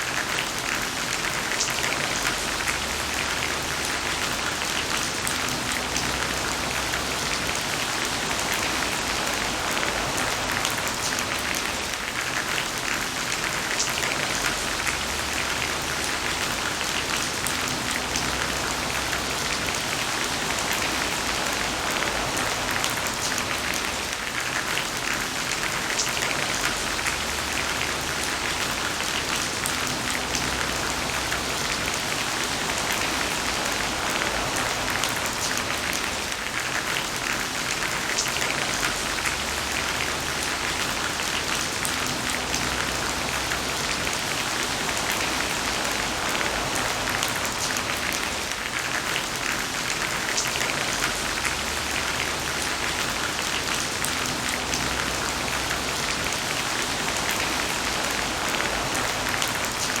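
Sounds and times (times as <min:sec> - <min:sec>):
heavy rain: 0:00.0 - 1:00.0.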